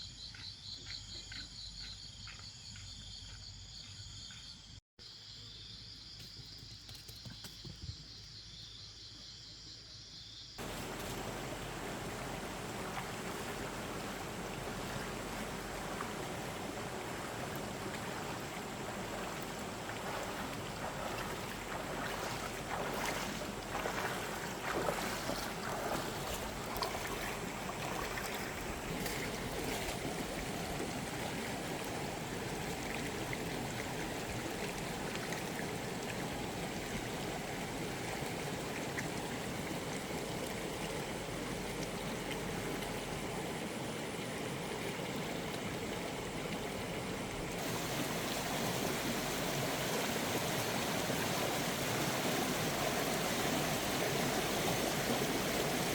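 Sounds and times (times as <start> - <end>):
running water rushing: 10.6 - 55.9.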